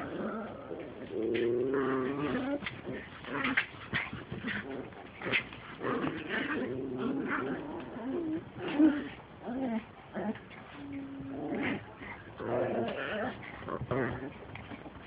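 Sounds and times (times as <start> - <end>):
dogs growling: 0.0 - 15.0.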